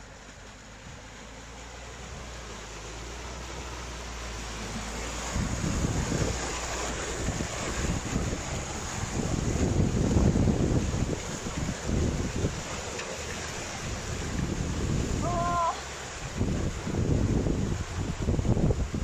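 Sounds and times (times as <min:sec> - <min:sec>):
car engine under load: 0:00.0 - 0:19.0
tyres churning through mud: 0:00.0 - 0:19.0
wind buffeting microphone: 0:02.0 - 0:19.0.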